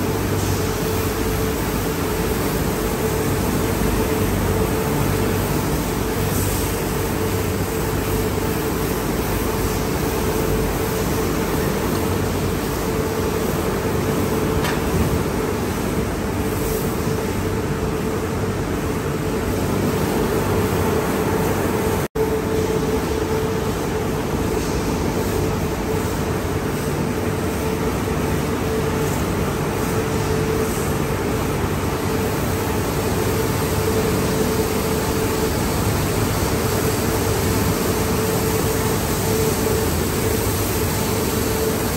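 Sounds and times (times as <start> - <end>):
drone of pumps and machinery: 0.0 - 41.9
high-pressure water jets hissing: 0.0 - 41.9.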